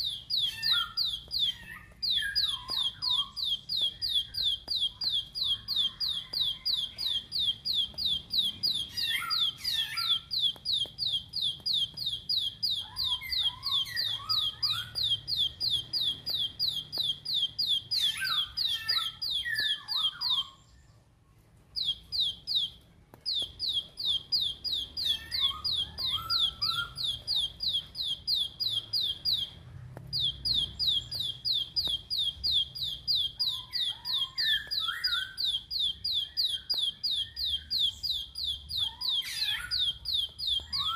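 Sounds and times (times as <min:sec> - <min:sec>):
bird singing high repeated notes: 0:00.0 - 0:20.8, 0:21.8 - 0:40.9
lower twittering chirps: 0:00.0 - 0:20.9, 0:21.8 - 0:40.9.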